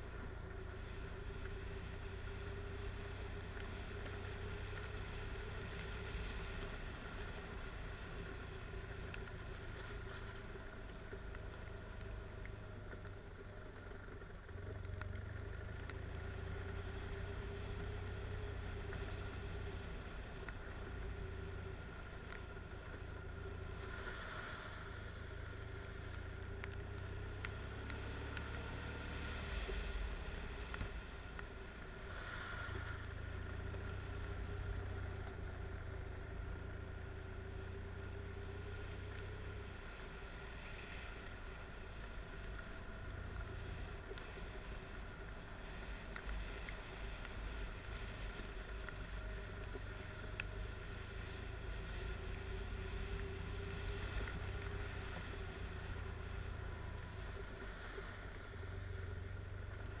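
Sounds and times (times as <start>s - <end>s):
faint ticks: 0.0s - 60.0s.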